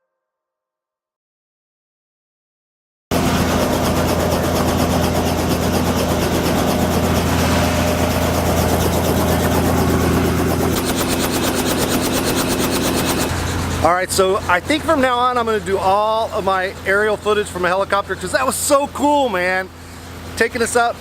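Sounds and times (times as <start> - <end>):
helicopter engine and rotor drone: 3.1 - 21.0.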